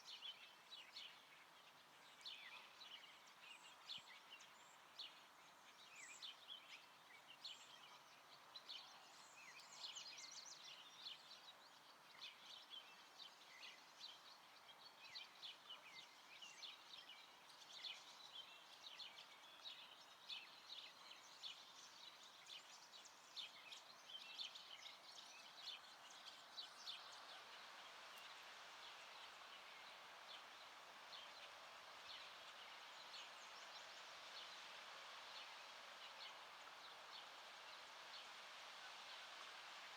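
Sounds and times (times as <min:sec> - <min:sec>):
small birds chirping: 0:00.0 - 0:39.9
steady outdoor hiss: 0:00.0 - 0:39.9.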